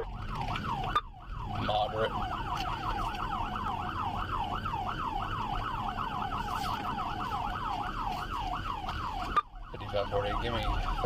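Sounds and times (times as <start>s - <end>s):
police siren yelping: 0.0s - 11.0s
road and engine rumble: 0.0s - 11.0s.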